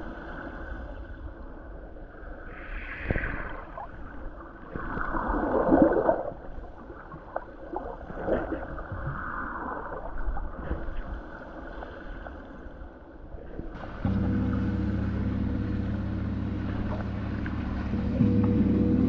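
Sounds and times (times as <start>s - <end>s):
underwater sloshing and gurgling: 0.0s - 19.0s.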